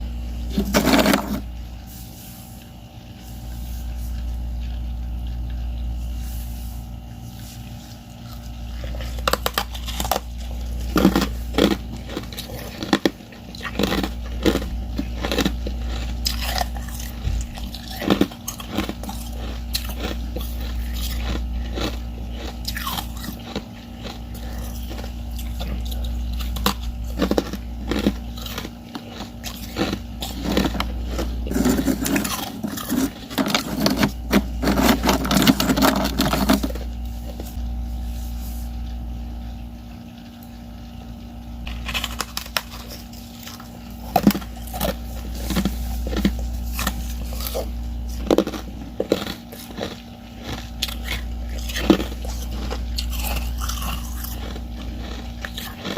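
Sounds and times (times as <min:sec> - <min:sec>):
low hum: 0:00.0 - 0:55.7
ice chewing crunches: 0:00.4 - 0:01.6, 0:02.5 - 0:37.6, 0:41.6 - 0:55.9.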